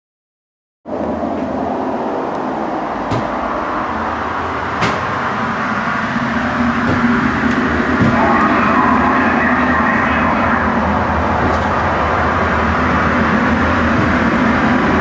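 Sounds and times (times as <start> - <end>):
storm rushing rumble: 1.7 - 15.0.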